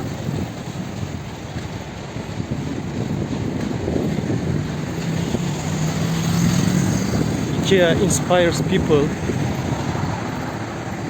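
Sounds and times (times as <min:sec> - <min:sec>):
low engine hum: 0:00.0 - 0:11.0
traffic noise: 0:00.0 - 0:11.0
wind on microphone: 0:00.0 - 0:11.0.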